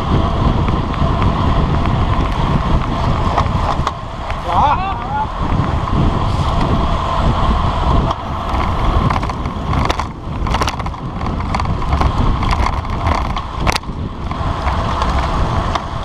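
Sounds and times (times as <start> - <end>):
tyre and road noise: 0.0 - 16.0
wind buffeting microphone: 0.0 - 16.0.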